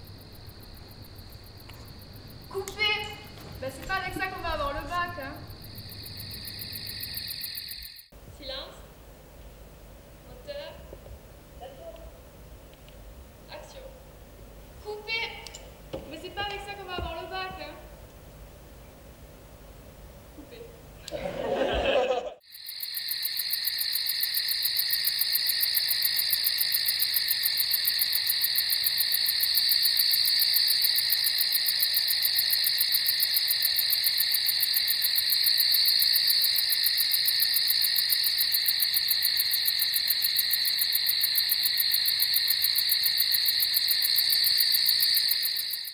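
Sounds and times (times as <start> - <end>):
crickets chirring: 0.0 - 45.9.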